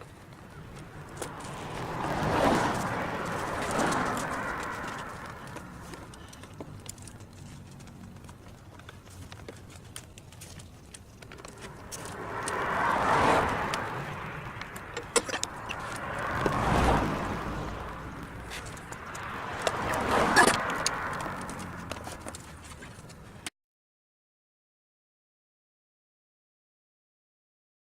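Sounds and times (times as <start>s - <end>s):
vehicles passing by: 0.0s - 23.5s.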